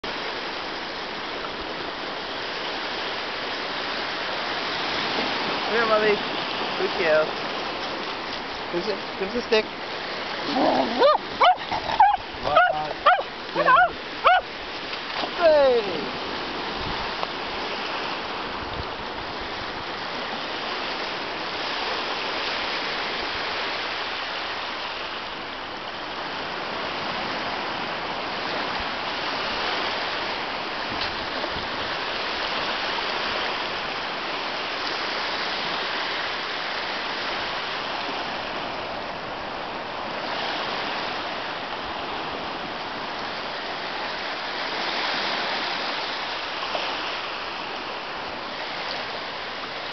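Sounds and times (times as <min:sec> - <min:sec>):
small waves washing up beach: 0:00.0 - 0:49.9.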